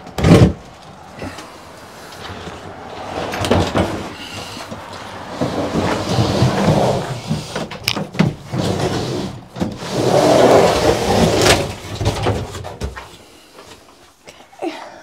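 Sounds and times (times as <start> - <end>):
cabinet scraping: 0.1 - 1.4, 2.2 - 13.1.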